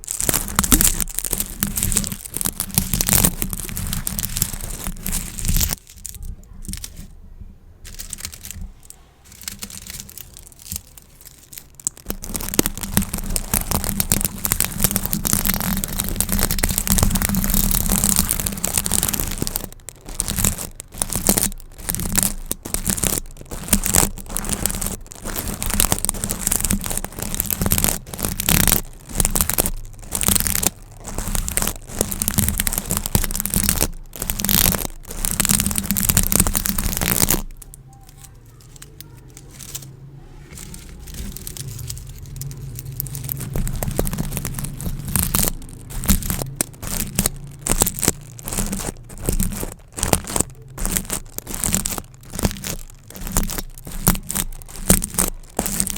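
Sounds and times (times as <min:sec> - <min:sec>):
gift bows crinkling: 0:00.0 - 0:55.9.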